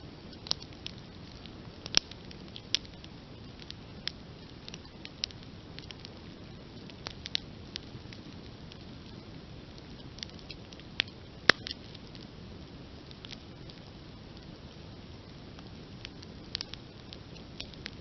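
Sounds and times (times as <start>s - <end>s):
campfire crackling and popping: 0.0s - 18.0s
soft rush of burning: 0.0s - 18.0s.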